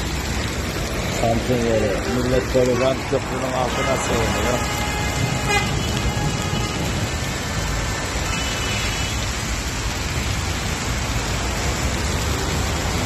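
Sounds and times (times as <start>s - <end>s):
torrential rain hissing: 0.0s - 13.0s.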